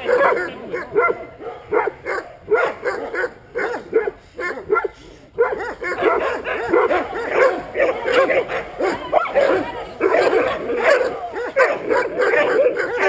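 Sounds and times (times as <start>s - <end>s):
large dog barking: 0.0s - 13.0s.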